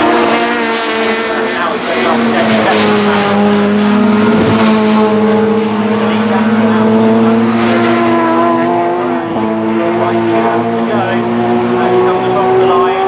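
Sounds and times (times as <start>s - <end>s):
race car engines at full throttle: 0.0s - 13.0s.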